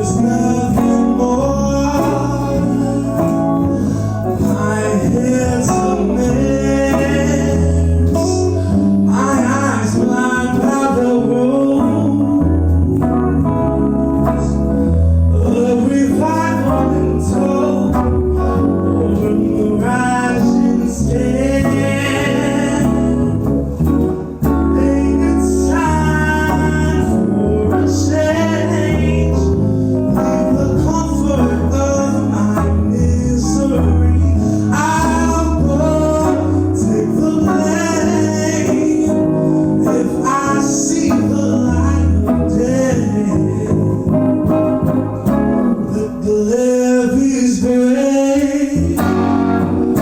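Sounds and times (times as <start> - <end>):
guitar accompaniment: 0.0 - 50.0
low bass line: 0.0 - 50.0
person singing long notes: 0.0 - 50.0.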